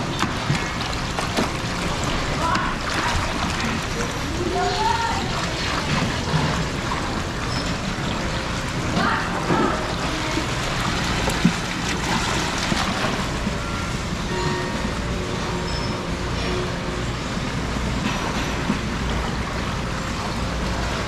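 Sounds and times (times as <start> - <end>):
water rushing through channel: 0.0 - 21.0.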